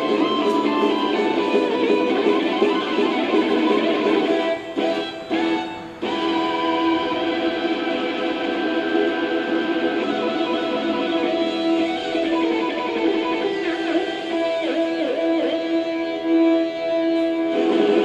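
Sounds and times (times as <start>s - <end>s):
electric guitar sustained notes: 0.0s - 18.0s
heavy metal instrumental: 0.0s - 18.0s.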